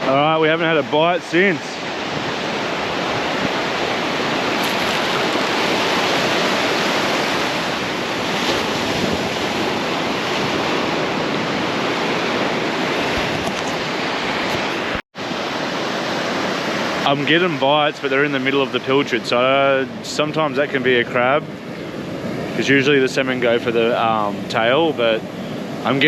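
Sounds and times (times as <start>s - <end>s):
ocean surf washing onto beach: 0.0s - 26.0s.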